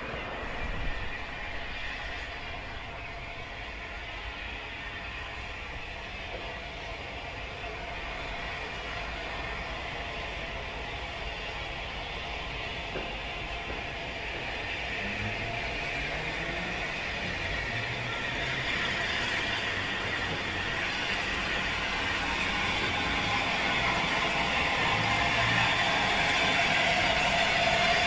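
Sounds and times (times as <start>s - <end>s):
steam locomotive approaching: 0.0s - 28.0s.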